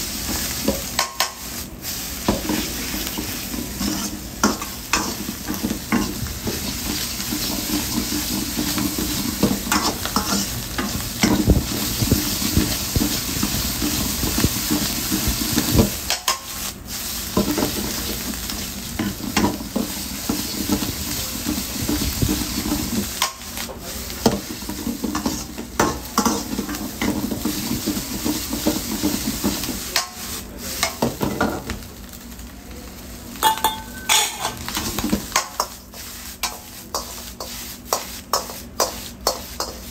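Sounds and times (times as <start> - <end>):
noodles sizzling in a wok: 0.0 - 39.9.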